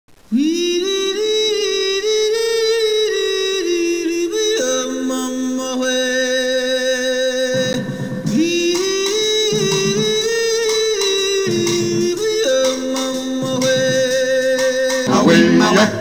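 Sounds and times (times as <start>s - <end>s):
high voice singing: 0.3s - 16.0s
voices singing in harmony: 0.3s - 16.0s.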